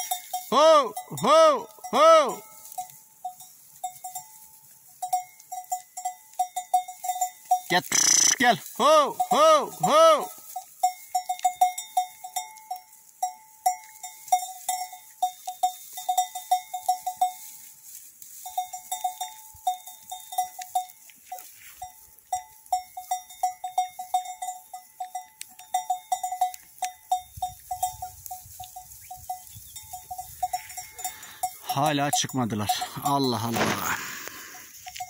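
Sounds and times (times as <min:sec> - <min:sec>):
sheep bells clanking: 0:00.0 - 0:35.0.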